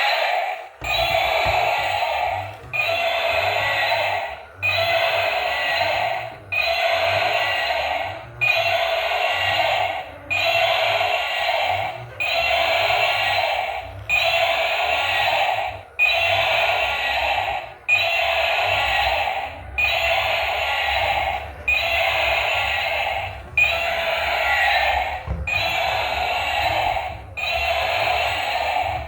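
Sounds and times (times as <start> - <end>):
toy vehicle electronic sound effect: 0.0 - 29.0.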